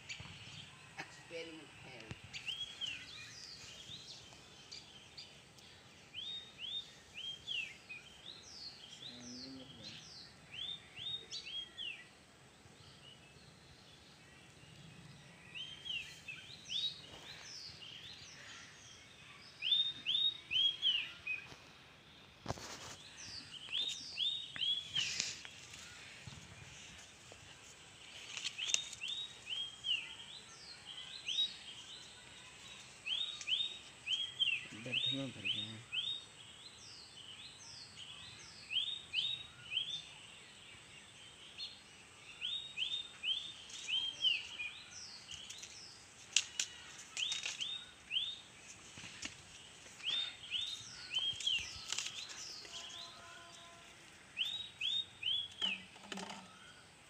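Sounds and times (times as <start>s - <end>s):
bird chirping: 0.0s - 57.0s
outdoor background noise: 0.0s - 57.0s.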